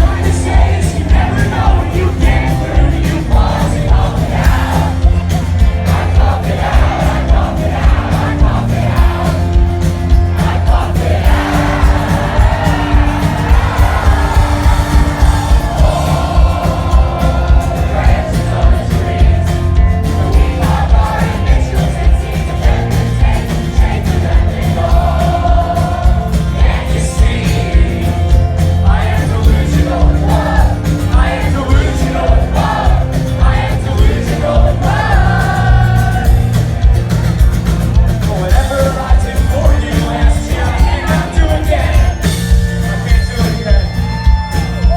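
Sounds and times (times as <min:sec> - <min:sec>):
person singing lead vocals: 0:00.0 - 0:36.6, 0:38.3 - 0:44.9
indie rock band playing live: 0:00.0 - 0:44.9.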